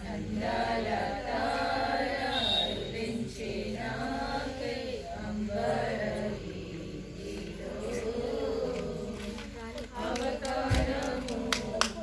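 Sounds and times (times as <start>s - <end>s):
group singing a chant: 0.0s - 12.0s.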